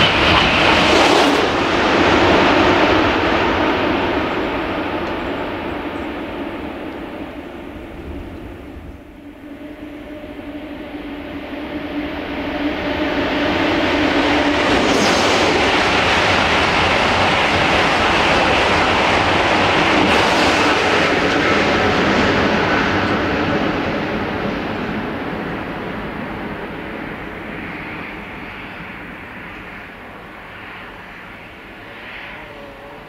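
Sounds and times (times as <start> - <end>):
train passing: 0.0 - 33.0.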